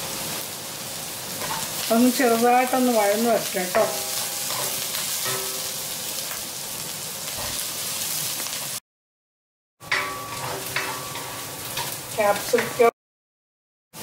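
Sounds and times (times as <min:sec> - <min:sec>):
vegetables sizzling in hot oil: 0:00.0 - 0:08.8, 0:09.8 - 0:13.0.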